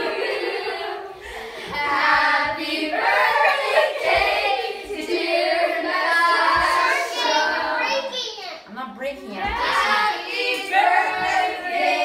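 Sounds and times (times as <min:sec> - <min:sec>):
children and women singing: 0:00.0 - 0:08.1, 0:09.3 - 0:12.0.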